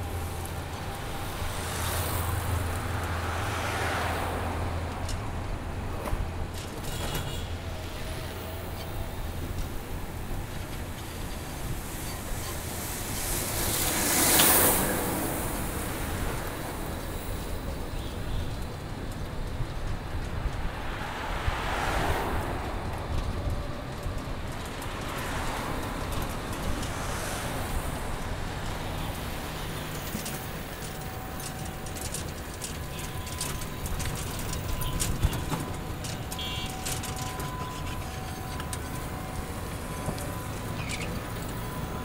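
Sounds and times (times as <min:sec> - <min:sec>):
bicycle road rumble: 0:00.0 - 0:42.0
traffic passing: 0:00.0 - 0:42.0.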